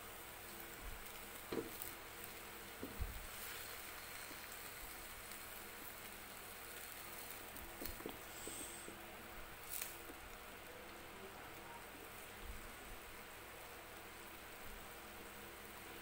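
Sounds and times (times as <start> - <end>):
sauce boiling in a wok: 0.0 - 16.0.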